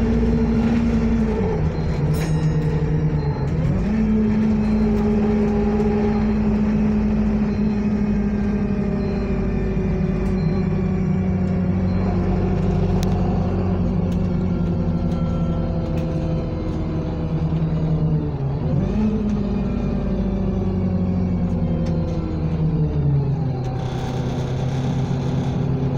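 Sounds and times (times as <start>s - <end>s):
bus engine from inside: 0.0s - 25.9s.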